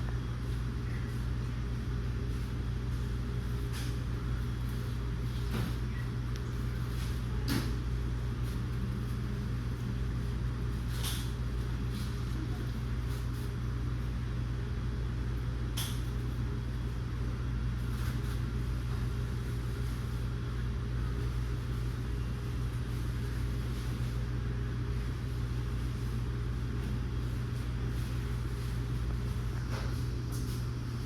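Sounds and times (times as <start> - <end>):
ceiling fan humming: 0.0 - 31.0.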